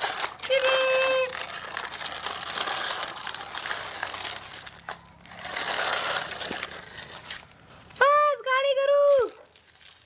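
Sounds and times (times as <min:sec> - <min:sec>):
gritty crunching and scraping: 0:00.0 - 0:08.2, 0:08.9 - 0:10.0.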